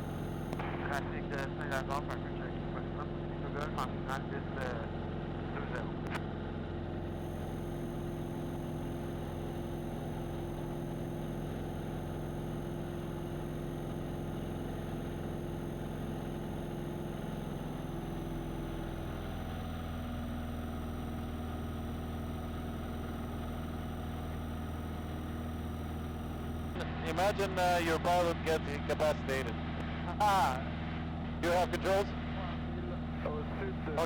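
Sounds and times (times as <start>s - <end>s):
airplane engine and propeller droning: 0.0s - 34.0s.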